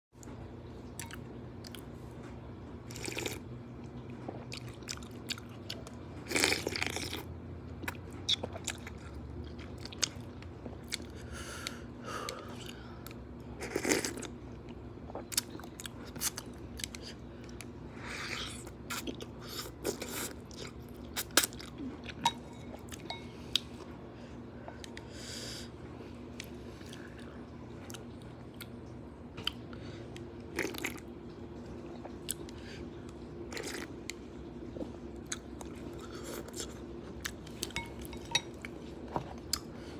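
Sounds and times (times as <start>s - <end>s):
faint steady hum: 0.2s - 39.9s.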